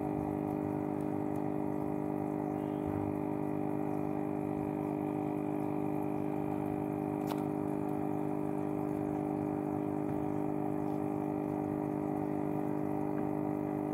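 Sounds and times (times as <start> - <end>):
aquarium pump humming: 0.0 - 13.9
water bubbling and trickling: 0.0 - 13.9.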